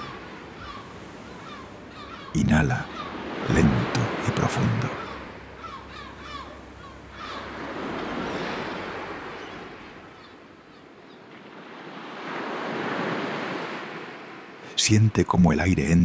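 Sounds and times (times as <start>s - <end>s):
sea surf washing on shore: 0.0s - 16.0s.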